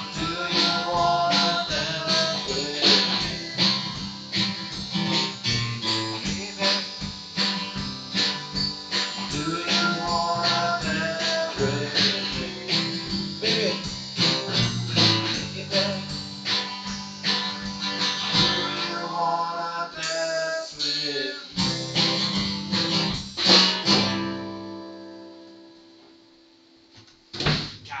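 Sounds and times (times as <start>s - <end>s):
acoustic guitar strumming: 0.0s - 26.2s.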